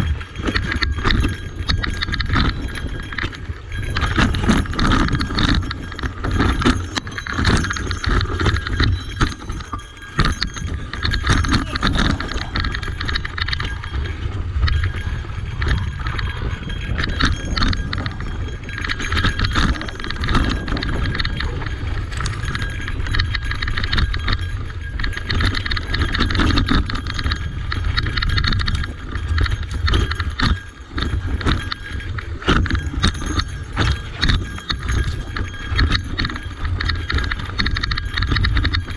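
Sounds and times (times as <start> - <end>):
mountain bike rattling on rough trail: 0.0 - 38.9.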